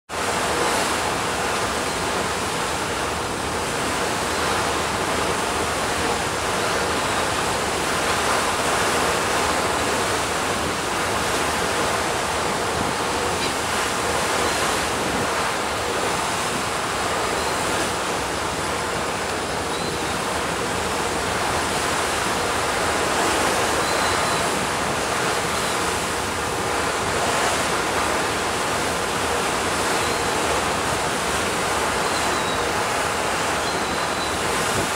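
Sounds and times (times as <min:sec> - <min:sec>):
sea water rushing: 0:00.1 - 0:34.9.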